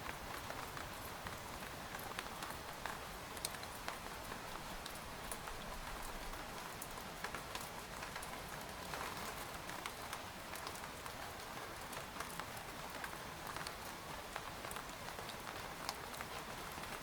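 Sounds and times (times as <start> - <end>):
rain falling on a tent: 0.0 - 17.0.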